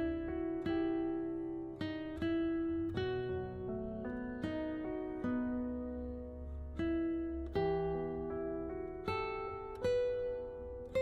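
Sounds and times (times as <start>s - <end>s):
acoustic guitar playing chords: 0.0s - 11.0s.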